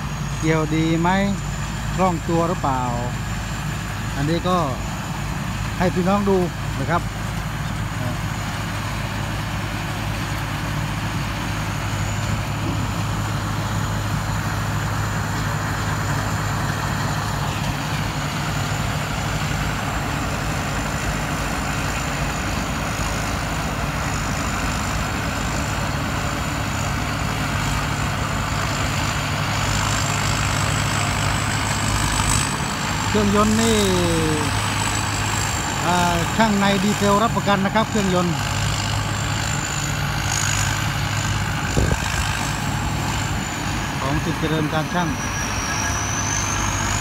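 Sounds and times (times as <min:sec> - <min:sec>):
combine harvester diesel engine: 0:00.0 - 0:47.0
high whine: 0:00.0 - 0:47.0.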